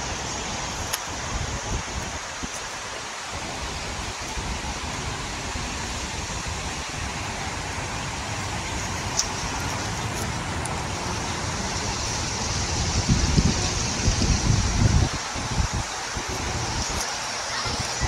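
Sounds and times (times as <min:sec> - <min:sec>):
rushing hiss: 0:00.0 - 0:18.0.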